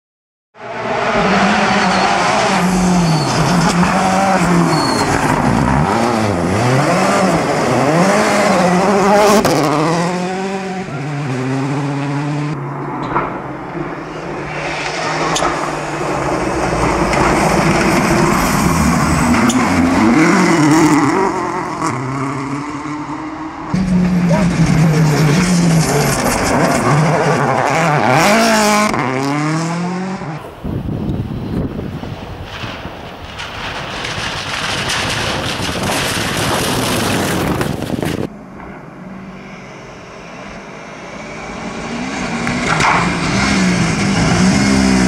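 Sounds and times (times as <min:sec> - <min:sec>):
rally car engines revving: 0:00.6 - 0:45.0.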